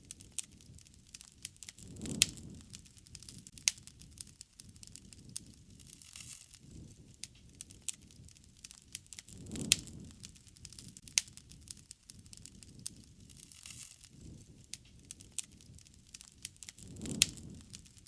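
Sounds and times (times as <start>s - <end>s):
flames rushing: 0.0s - 18.0s
wood fire crackling: 0.0s - 18.0s.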